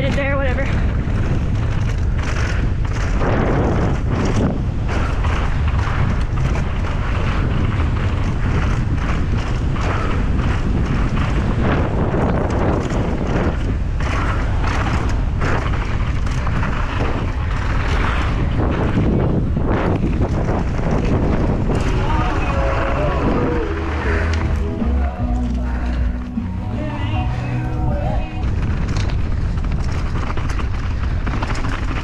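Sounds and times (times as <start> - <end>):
bike knocks and rattles: 0.0 - 32.0
tyres rumbling on dirt: 0.0 - 32.0
wind buffeting microphone: 0.0 - 32.0.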